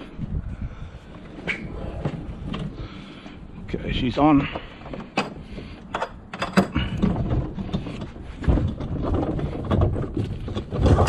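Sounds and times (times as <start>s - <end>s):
low rumbling and rustling: 0.0s - 11.0s.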